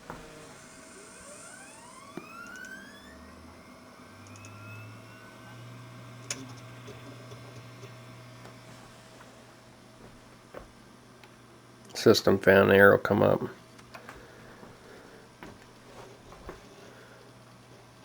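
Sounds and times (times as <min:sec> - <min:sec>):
computer fans and hard drive whining: 0:00.0 - 0:18.0.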